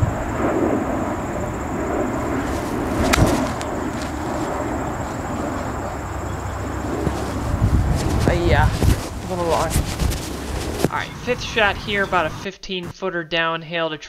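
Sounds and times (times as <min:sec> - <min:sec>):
wind rumbling on microphone: 0:00.0 - 0:12.4.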